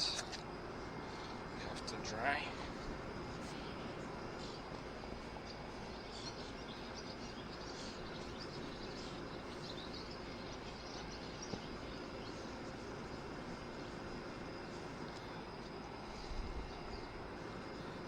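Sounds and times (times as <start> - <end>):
birds chirping: 0.0 - 18.0
outdoor background hum: 0.0 - 18.0.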